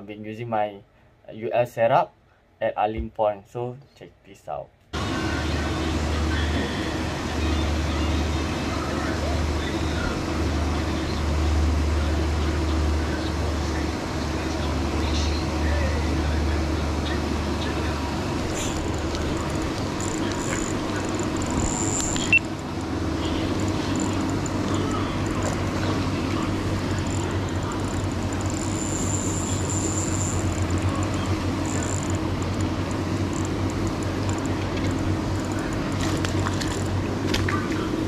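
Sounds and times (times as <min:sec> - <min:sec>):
steady mechanical hum: 0:00.0 - 0:38.0
outdoor noise: 0:04.8 - 0:38.0.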